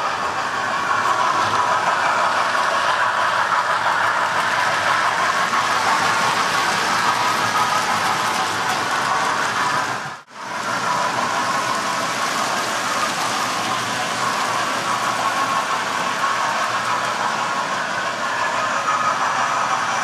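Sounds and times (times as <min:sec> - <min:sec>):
model trains whirring on track: 0:00.0 - 0:20.0.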